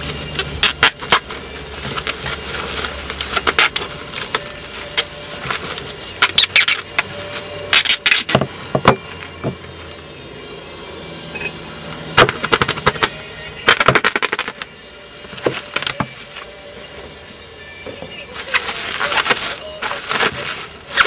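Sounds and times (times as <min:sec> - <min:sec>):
plastic cling film crinkling: 0:00.0 - 0:09.9, 0:12.2 - 0:16.6, 0:18.3 - 0:21.0.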